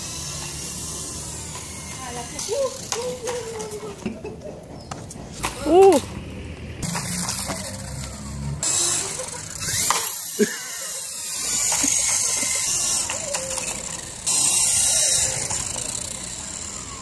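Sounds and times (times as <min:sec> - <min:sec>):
toy helicopter rotor whirring: 0:00.0 - 0:04.1, 0:06.8 - 0:17.0
voices: 0:00.2 - 0:06.2, 0:07.3 - 0:17.0.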